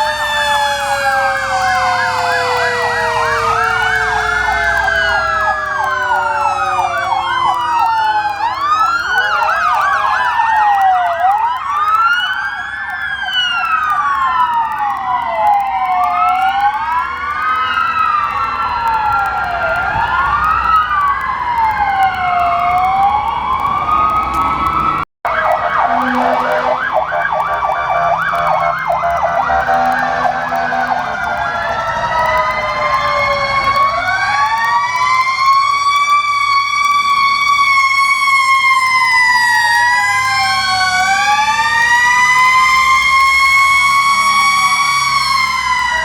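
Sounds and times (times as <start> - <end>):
siren fast yelp: 0.0 - 24.4, 25.3 - 46.0
fire truck sirens wailing: 0.0 - 46.0.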